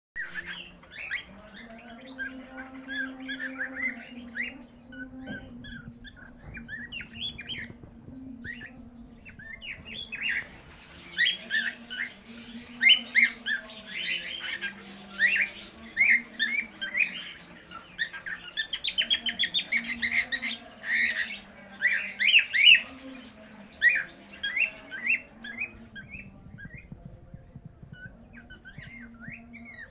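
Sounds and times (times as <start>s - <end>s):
faint low hum: 0.3s - 29.9s.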